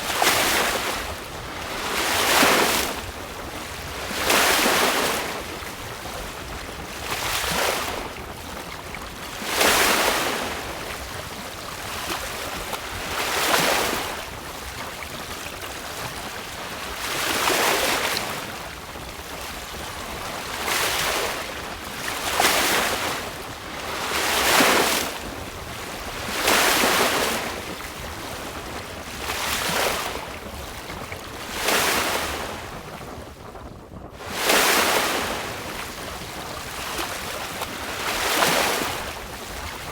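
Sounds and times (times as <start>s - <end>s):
sea water splashing on hull: 0.0s - 33.5s, 34.1s - 39.9s
wind buffeting microphone: 0.0s - 39.9s.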